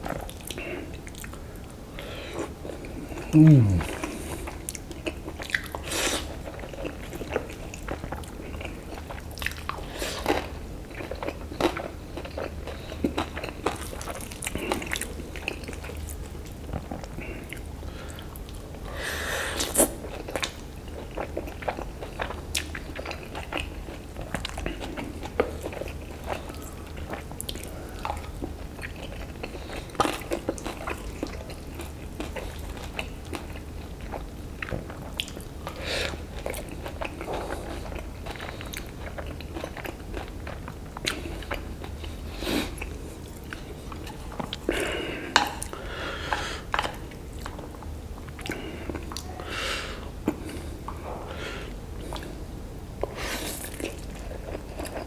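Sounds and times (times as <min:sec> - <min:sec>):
person chewing noodles: 0:02.2 - 0:49.3, 0:50.0 - 0:55.0.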